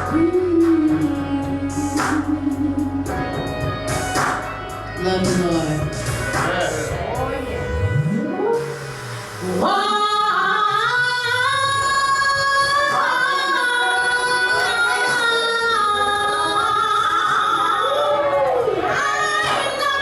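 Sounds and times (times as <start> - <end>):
musical accompaniment: 0.0 - 20.0.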